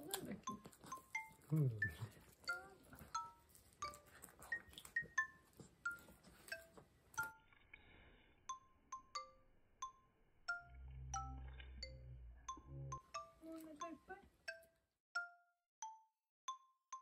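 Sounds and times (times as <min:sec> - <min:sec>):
gentle bell-like melody: 0:00.2 - 0:07.6, 0:08.4 - 0:17.0.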